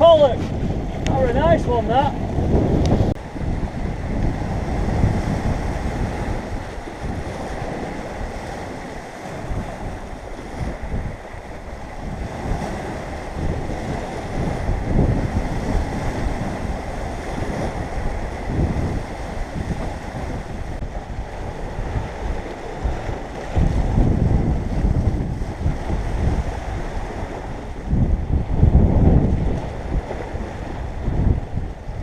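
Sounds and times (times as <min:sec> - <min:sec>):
sea surf: 0:00.0 - 0:32.0
wind buffeting microphone: 0:00.0 - 0:32.0.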